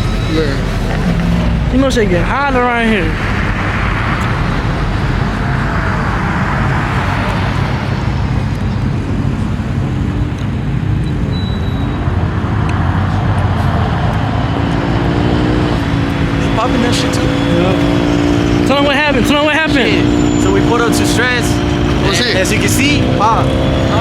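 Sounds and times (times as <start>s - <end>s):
car engines running: 0.0s - 24.0s.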